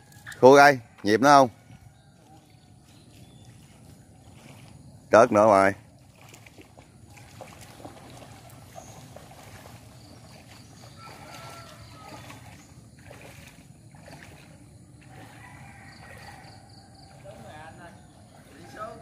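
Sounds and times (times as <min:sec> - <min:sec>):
footsteps wading through water: 0:00.0 - 0:19.0.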